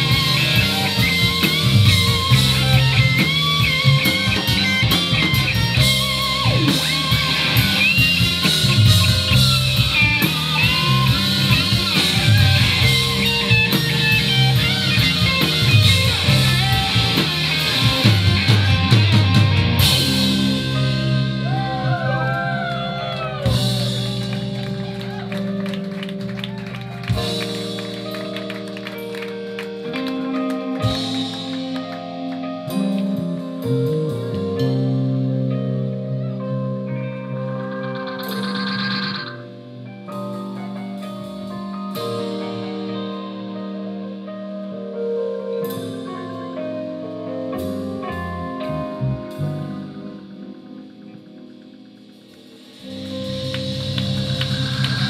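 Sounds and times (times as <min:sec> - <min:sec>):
drums: 0:00.0 - 0:35.5, 0:37.7 - 0:44.3, 0:45.5 - 0:55.0
bass guitar: 0:00.0 - 0:55.0
electric guitar lead with bent notes: 0:00.0 - 0:55.0.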